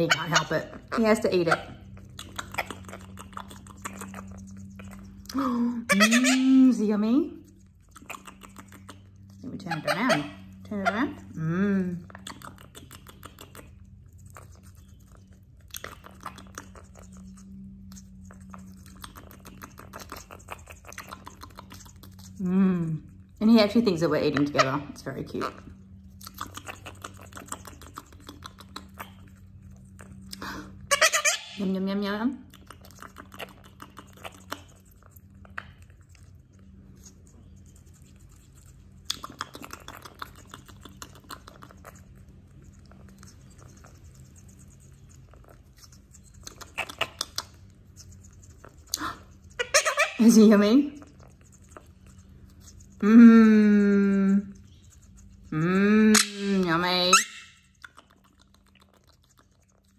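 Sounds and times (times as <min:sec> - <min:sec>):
parrot beak crunching pepper: 0:00.0 - 0:53.1, 0:54.4 - 0:59.9.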